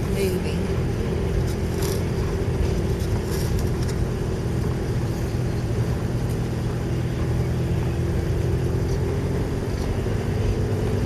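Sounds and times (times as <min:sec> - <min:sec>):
car engine drone: 0:00.0 - 0:11.0
tyres on road: 0:00.0 - 0:11.0.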